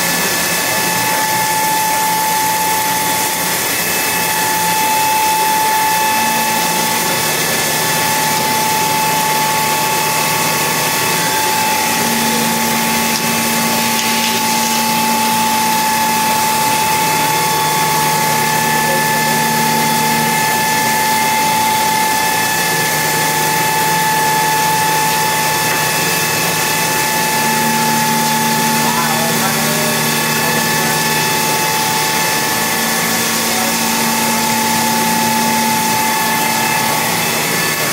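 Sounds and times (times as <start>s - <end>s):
low machine hum: 0.0s - 37.9s
milling machine high whine: 0.0s - 37.9s.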